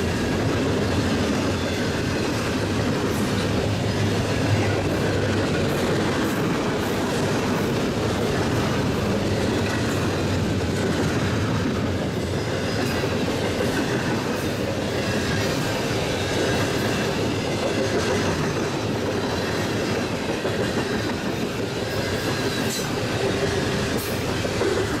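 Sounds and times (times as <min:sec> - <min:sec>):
rail clicks: 0:00.0 - 0:25.0
train wheels rumbling on rails: 0:00.0 - 0:25.0.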